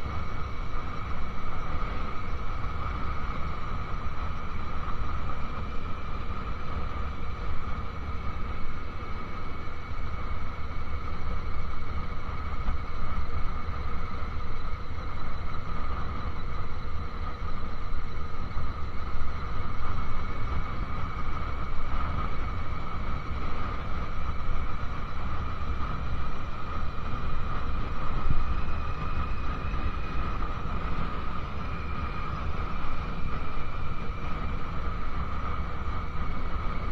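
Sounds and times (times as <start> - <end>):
motorcycle engine whine: 0.0 - 36.9.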